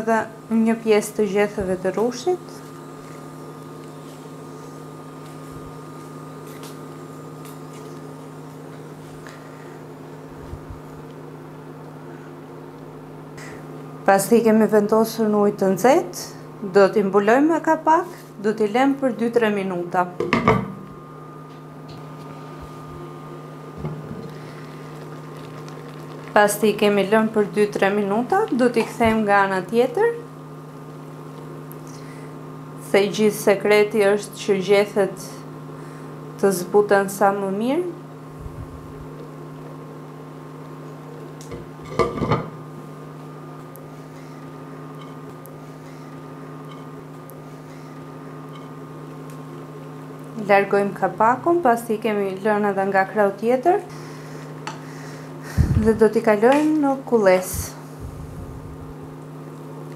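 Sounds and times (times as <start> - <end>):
induction hob humming: 0.0 - 59.9.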